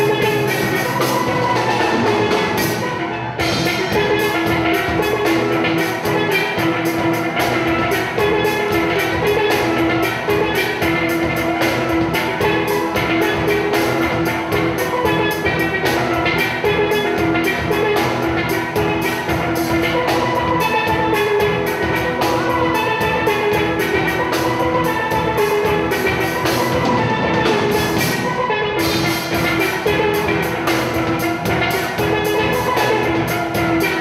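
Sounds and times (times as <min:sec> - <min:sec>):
drum kit beat: 0:00.0 - 0:34.0
steel pans playing melody: 0:00.0 - 0:34.0.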